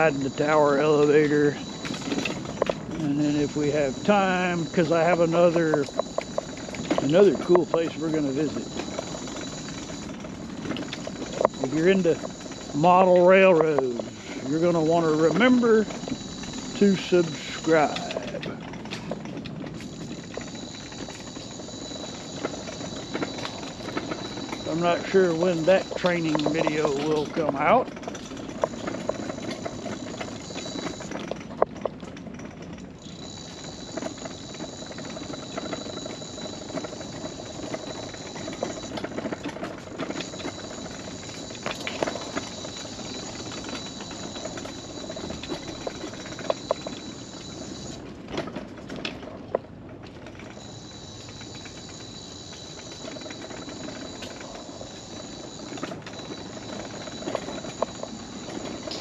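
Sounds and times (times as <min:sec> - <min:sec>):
scooter motor whine: 0:00.0 - 0:59.0
wheels clattering on planks: 0:00.0 - 0:59.0.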